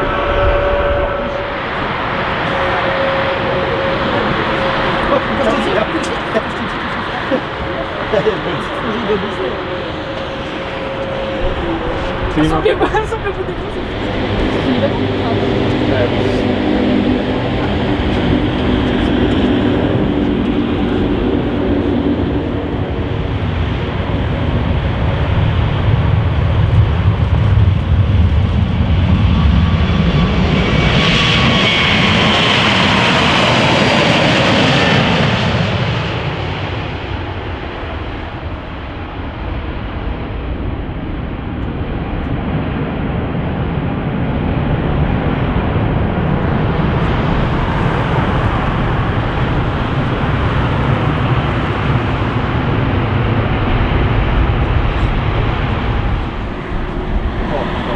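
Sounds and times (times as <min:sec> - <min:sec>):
aircraft engines passing with whine: 0:00.0 - 0:57.9.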